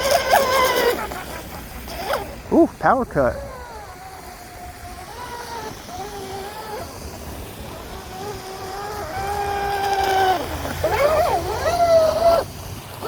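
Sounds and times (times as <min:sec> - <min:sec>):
electric boat motor whining: 0:00.0 - 0:13.0.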